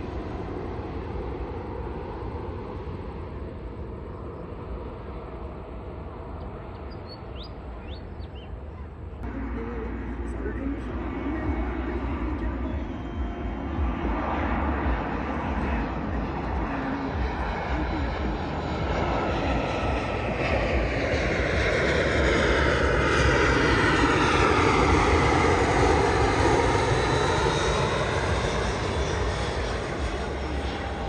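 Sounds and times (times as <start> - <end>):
jet airliner passing: 0.0 - 31.0.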